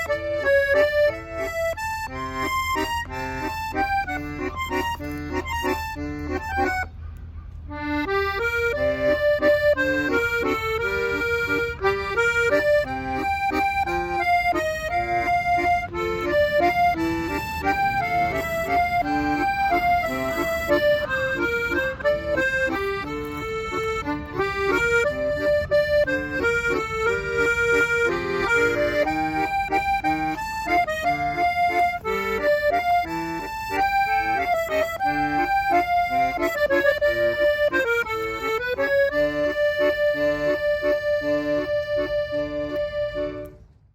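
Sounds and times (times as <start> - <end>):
accordion playing melody: 0.0 - 43.9.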